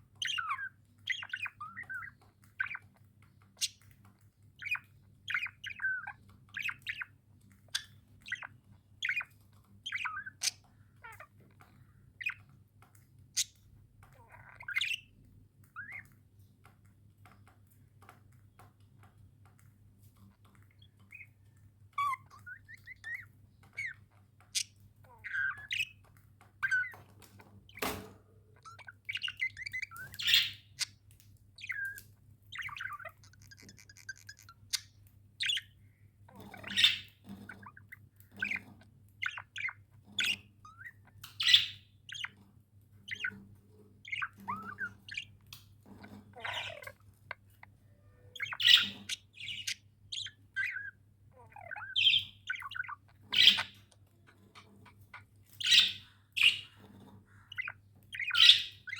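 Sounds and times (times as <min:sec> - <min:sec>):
budgerigars chirping: 0:00.1 - 0:04.0, 0:04.6 - 0:12.5, 0:13.3 - 0:16.2, 0:20.2 - 0:58.9.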